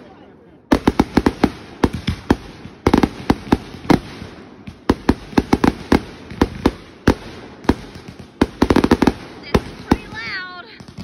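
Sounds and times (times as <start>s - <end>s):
fireworks bangs: 0.7s - 11.0s.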